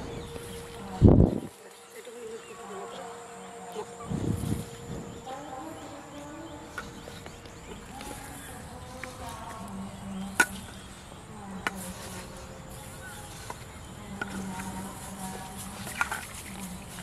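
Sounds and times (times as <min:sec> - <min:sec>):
insect buzzing: 0:00.0 - 0:17.0.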